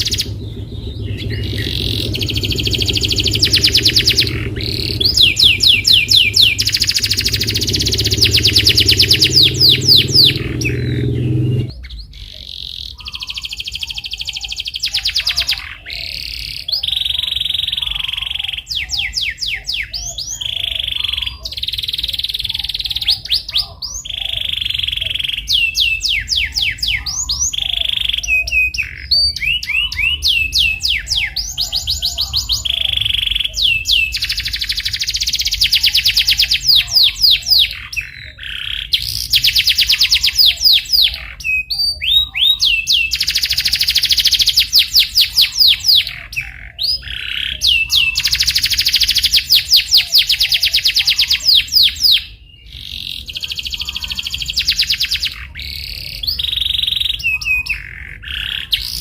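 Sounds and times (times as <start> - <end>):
canary singing trills and chirps: 0.0 - 59.0.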